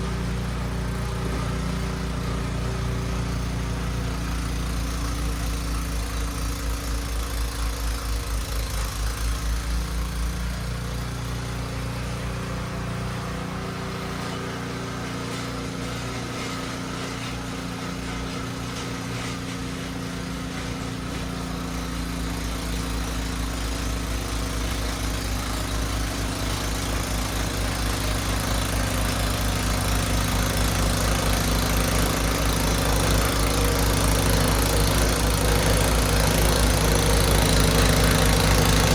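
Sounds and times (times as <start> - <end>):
snow blower engine running: 0.0 - 38.9.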